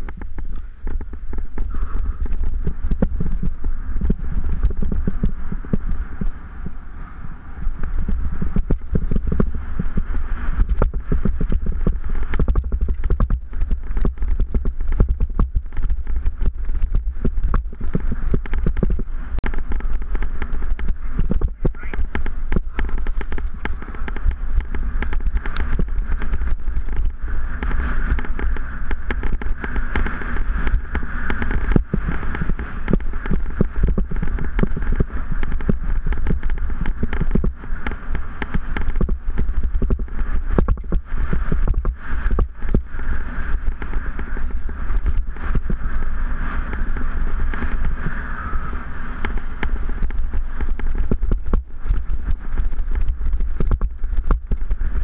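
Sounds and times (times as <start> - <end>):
bike rattling over bumps: 0.0 - 55.0
low rumble: 0.0 - 55.0.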